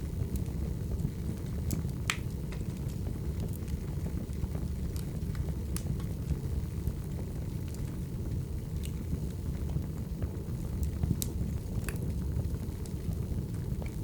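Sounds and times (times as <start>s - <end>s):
fire crackling and popping: 0.0s - 14.0s
low rush of flame: 0.0s - 14.0s.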